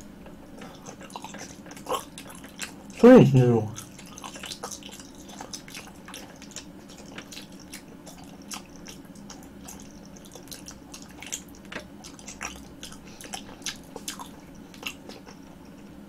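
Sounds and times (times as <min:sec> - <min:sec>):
chewing jelly wet clicks: 0:00.6 - 0:03.0, 0:03.7 - 0:15.9.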